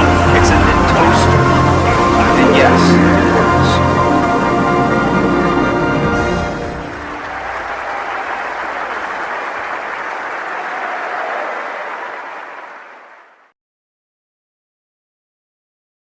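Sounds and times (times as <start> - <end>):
crowd applauding: 0.0 - 13.5.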